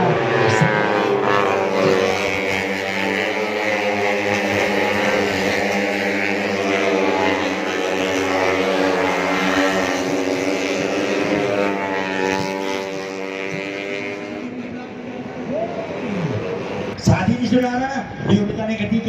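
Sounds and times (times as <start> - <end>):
racing motorcycles revving: 0.0 - 19.0.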